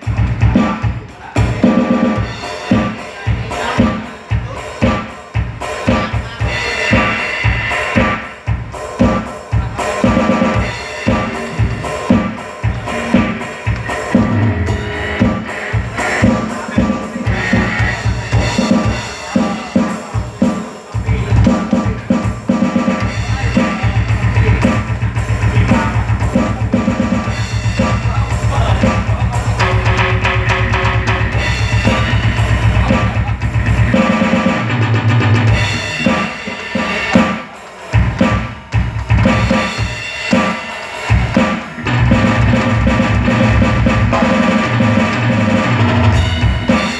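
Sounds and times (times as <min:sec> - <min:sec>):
acoustic drum kit played hard: 0:00.0 - 0:46.9
backing music with bass line: 0:00.0 - 0:46.9.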